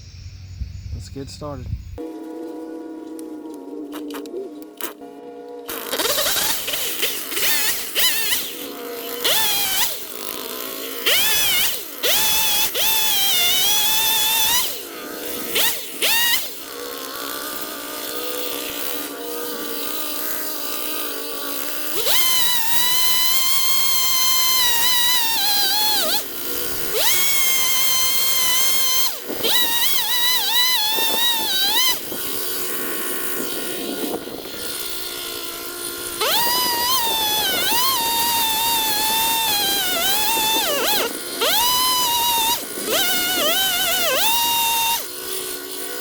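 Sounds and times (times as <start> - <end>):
chainsaw cutting wood: 2.0 - 46.0.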